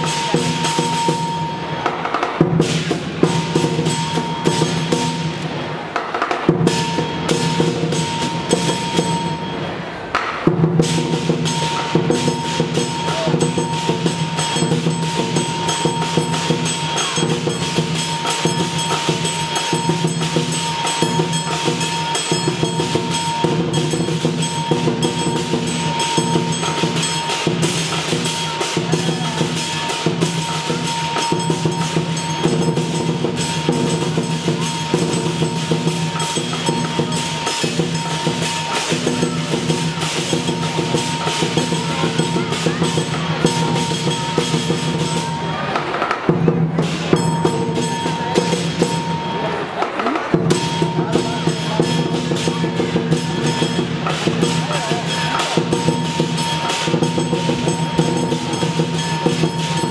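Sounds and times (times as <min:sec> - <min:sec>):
clashing cymbals: 0:00.0 - 0:59.9
drum beaten in fast patterns: 0:00.0 - 0:59.9.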